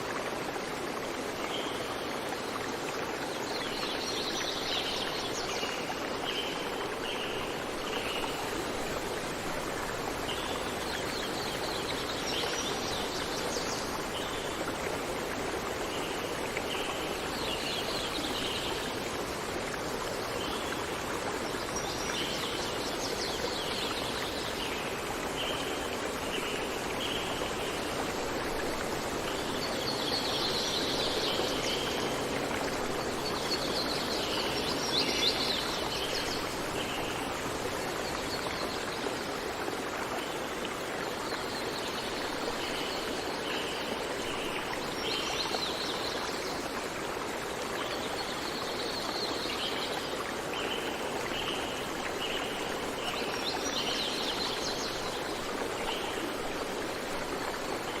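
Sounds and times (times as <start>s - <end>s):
running water stream: 0.0s - 58.0s.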